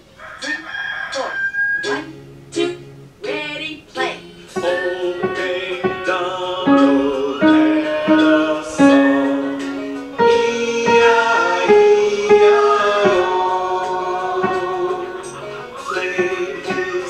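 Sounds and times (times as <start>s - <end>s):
slow piano melody: 2.1s - 3.3s, 4.4s - 17.0s.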